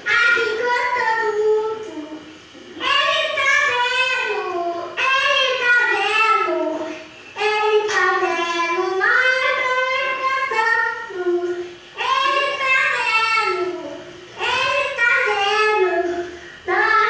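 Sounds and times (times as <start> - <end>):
boy singing unaccompanied: 0.0 - 2.2, 2.8 - 17.0.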